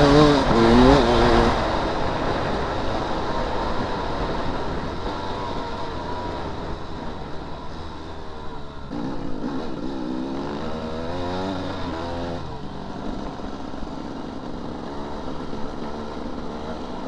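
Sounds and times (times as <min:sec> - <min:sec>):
dirt bike engine revving: 0:00.0 - 0:17.0
wind and riding noise: 0:00.0 - 0:17.0.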